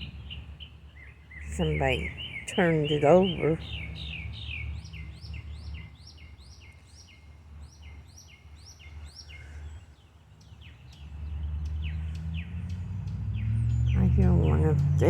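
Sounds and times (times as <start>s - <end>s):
low steady rumble: 0.0s - 15.0s
songbird chirping: 0.0s - 15.0s.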